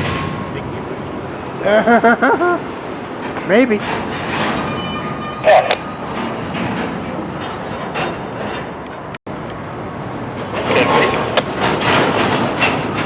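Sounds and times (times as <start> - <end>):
freight train rumbling and rattling: 0.0 - 13.0.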